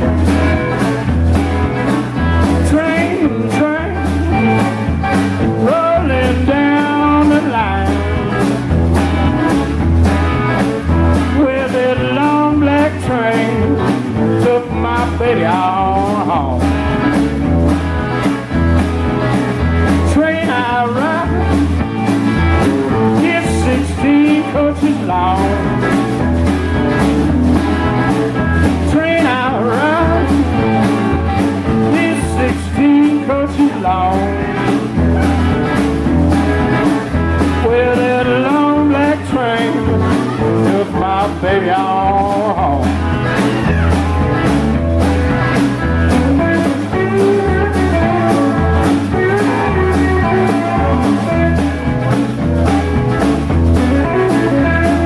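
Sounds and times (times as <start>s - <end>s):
bending lead guitar line: 0.0s - 55.0s
blues band playing: 0.0s - 55.0s.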